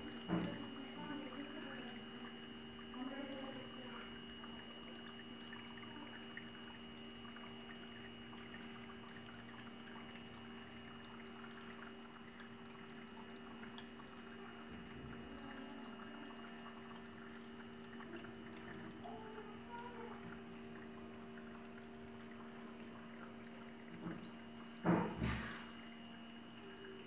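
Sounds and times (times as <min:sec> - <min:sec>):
faint steady hum: 0:00.0 - 0:27.0
water trickling in fountain: 0:00.0 - 0:27.0.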